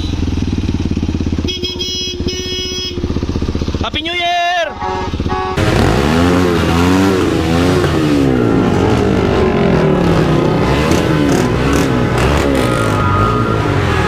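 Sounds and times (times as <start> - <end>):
motorcycle engine revving: 0.0 - 4.2, 4.8 - 14.0.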